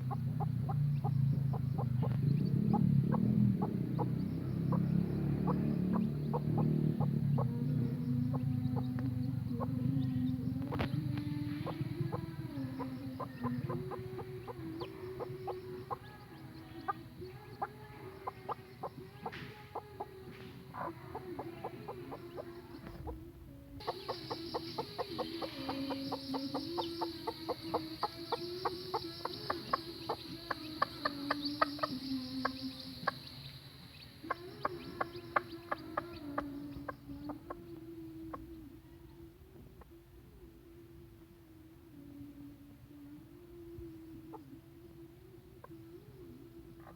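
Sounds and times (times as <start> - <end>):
hen clucking: 0.0 - 23.2, 23.8 - 38.6
chicks peeping: 0.0 - 39.2.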